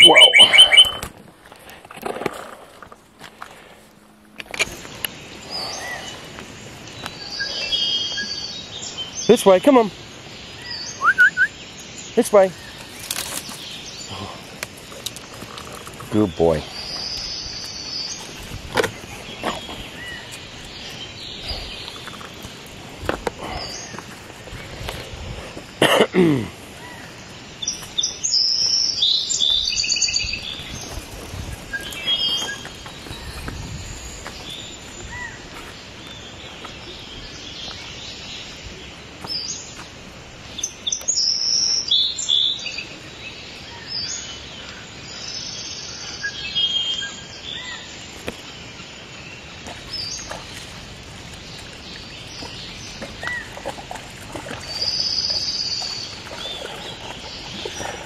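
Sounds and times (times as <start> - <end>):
wild birds chirping and trilling: 0.0 - 58.0
steady background hiss: 0.2 - 53.0.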